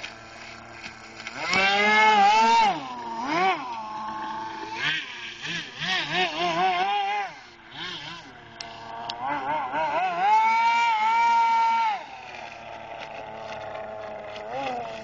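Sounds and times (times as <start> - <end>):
model airboat motor revving: 0.0 - 15.0.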